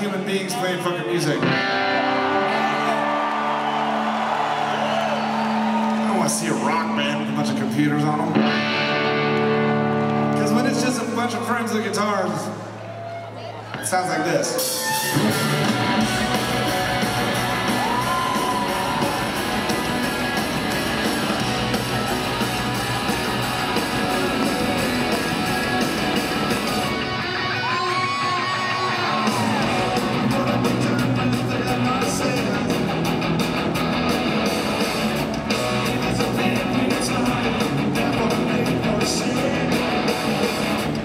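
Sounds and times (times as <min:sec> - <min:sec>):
live rock band playing: 0:01.2 - 0:11.8, 0:14.6 - 0:41.0
loud distorted electric guitars: 0:01.3 - 0:11.4, 0:14.6 - 0:41.0.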